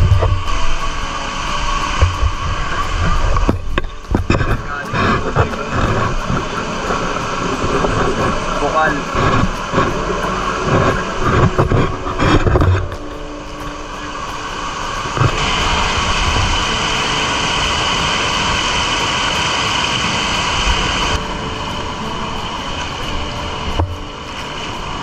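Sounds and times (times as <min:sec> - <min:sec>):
water gushing over rocks: 0:00.0 - 0:25.0.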